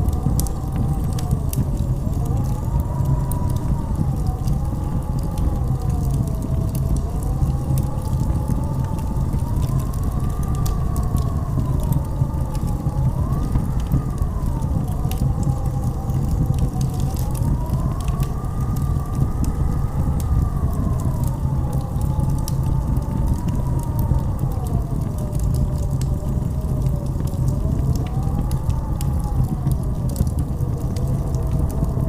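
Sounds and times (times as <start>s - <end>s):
sharp crackles: 0.0s - 32.0s
wind howling: 0.0s - 32.0s.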